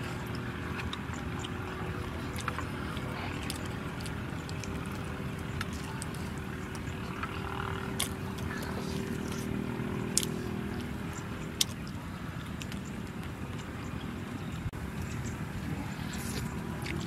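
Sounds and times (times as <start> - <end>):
chewing smacks: 0.0 - 13.8, 15.0 - 17.0.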